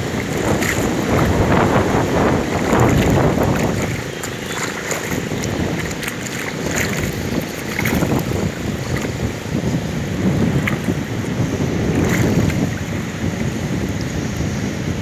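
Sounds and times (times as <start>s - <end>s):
water sloshing and splashing: 0.0s - 14.4s
wind buffeting microphone: 0.0s - 15.0s.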